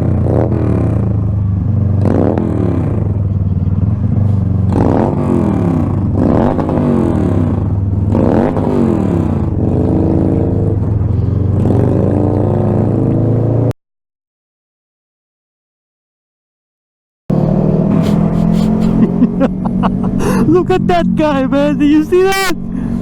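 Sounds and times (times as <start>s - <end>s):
motorcycle engine revving: 0.0s - 13.7s, 17.3s - 23.0s.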